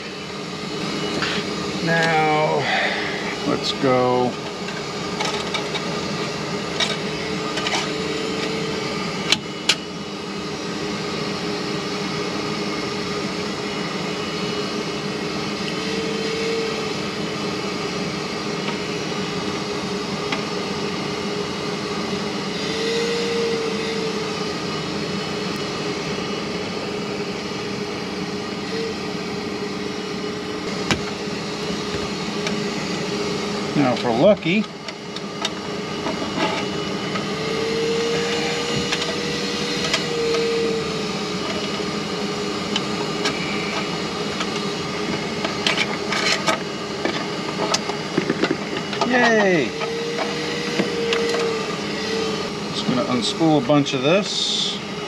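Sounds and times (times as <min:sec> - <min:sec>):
machine hum with held tones: 0:00.0 - 0:55.0.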